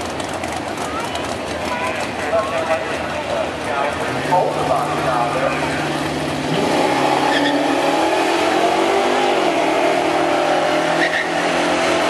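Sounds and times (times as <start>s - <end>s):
cars racing at full throttle: 0.0s - 12.0s.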